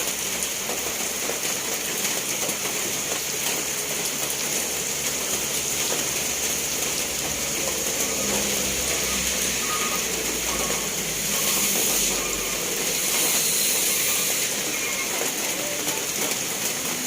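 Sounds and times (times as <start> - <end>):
rain drop ticks: 0.0 - 17.0
steady rain hiss: 0.0 - 17.0.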